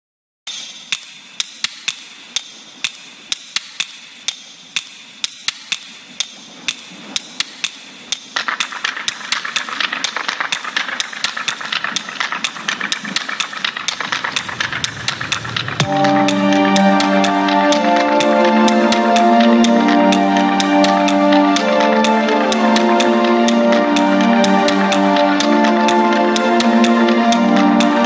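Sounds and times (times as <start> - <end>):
sharp clicks: 0.9 - 28.0.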